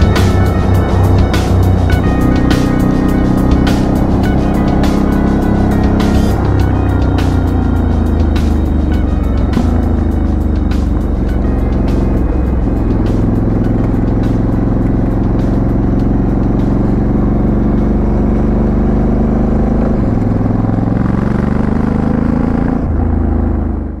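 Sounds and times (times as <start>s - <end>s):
motorcycle engine and exhaust: 0.0s - 24.0s.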